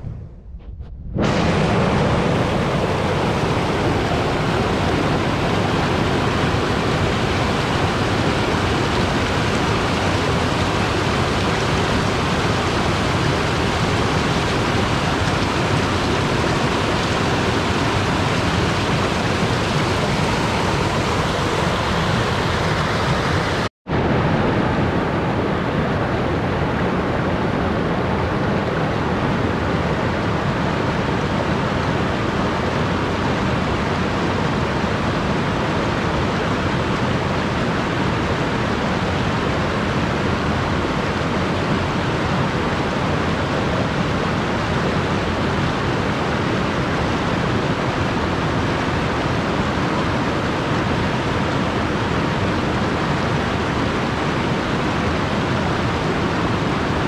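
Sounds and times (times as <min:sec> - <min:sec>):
waterfall rushing: 0:01.2 - 0:23.7, 0:29.9 - 0:57.0.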